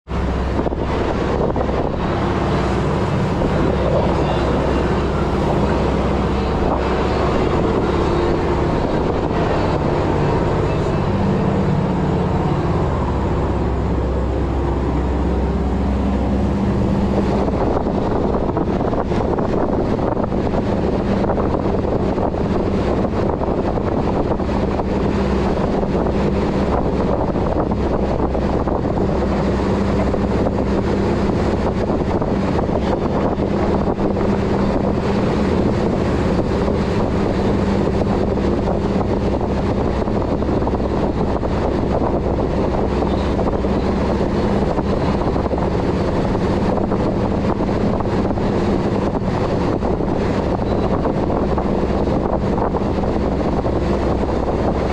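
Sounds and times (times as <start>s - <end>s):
boat engine droning: 0.0s - 54.9s
water rushing past hull: 0.0s - 54.9s
wind buffeting microphone: 0.1s - 54.9s.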